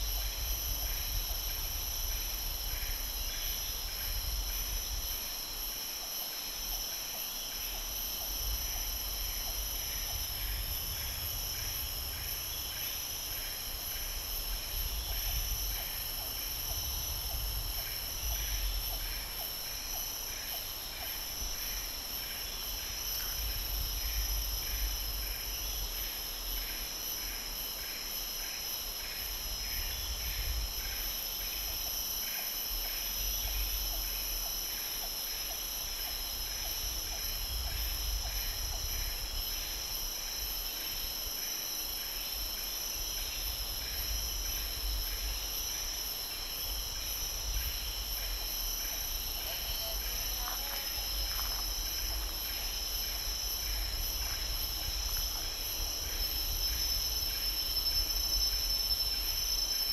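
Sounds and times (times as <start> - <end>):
insect chirping: 0.0 - 59.9
insects calling high-pitched: 0.0 - 59.9.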